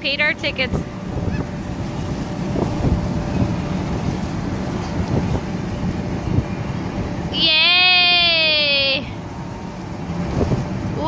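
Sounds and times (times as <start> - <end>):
low rumbling noise: 0.0 - 11.0
wind buffeting microphone: 0.0 - 11.0.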